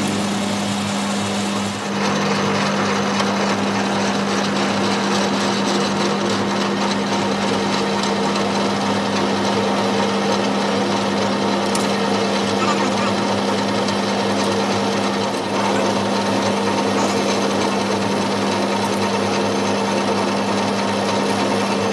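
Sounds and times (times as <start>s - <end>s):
workshop machine humming: 0.0s - 21.9s.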